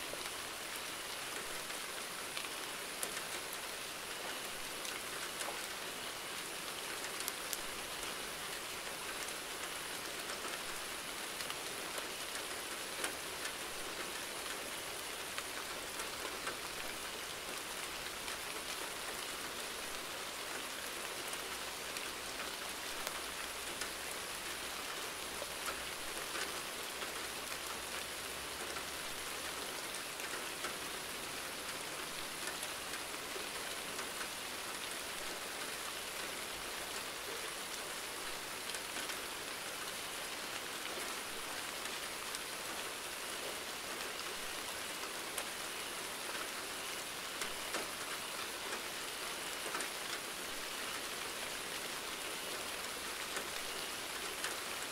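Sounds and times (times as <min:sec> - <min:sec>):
steady rain hiss: 0:00.0 - 0:54.9
raindrops ticking on surface: 0:00.1 - 0:54.9.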